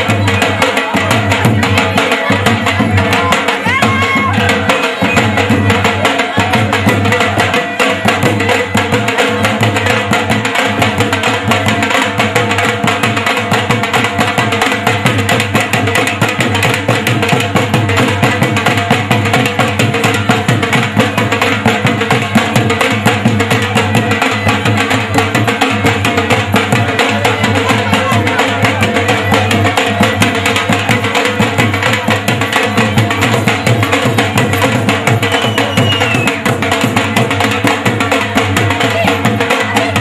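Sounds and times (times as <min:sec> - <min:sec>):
fast drumming with sticks: 0:00.0 - 0:40.0.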